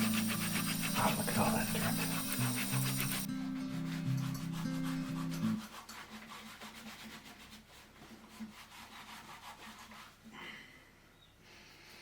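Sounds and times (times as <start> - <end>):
scrubbing rubber flip-flop: 0.0 - 10.2.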